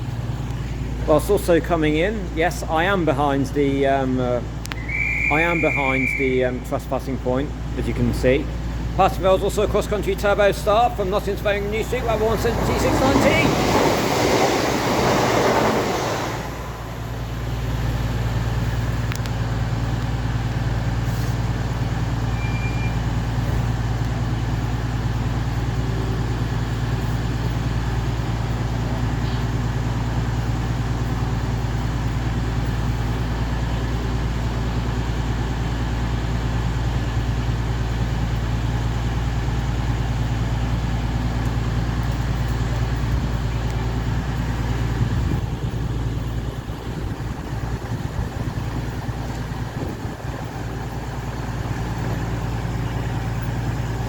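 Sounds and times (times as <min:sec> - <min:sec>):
diesel train engines idling: 0:00.0 - 0:54.0.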